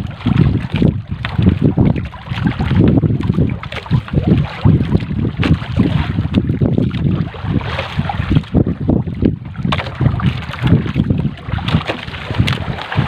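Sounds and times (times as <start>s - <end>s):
water washing against boat: 0.0s - 13.0s
wind buffeting microphone: 0.0s - 13.0s.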